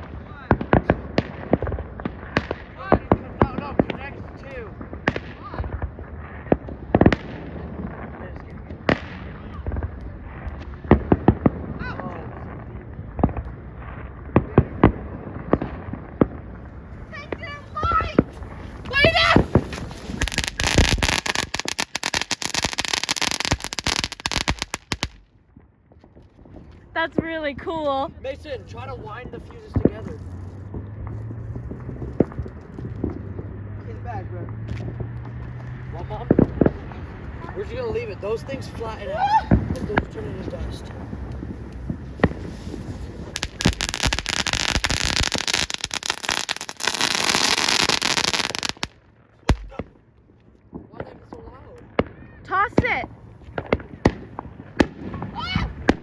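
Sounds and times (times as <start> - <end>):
firework crackling: 0.0 - 33.8, 34.6 - 50.1, 50.8 - 56.0.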